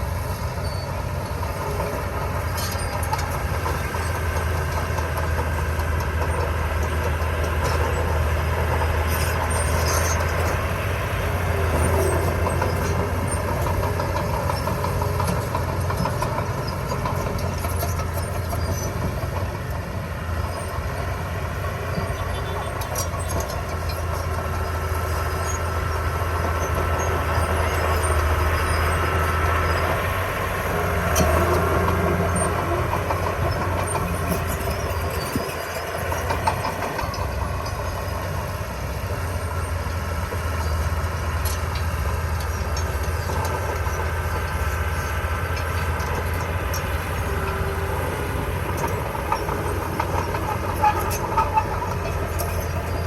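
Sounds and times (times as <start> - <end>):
bulldozer diesel engine running: 0.0 - 53.0
steel tracks squealing and clanking: 0.0 - 53.0.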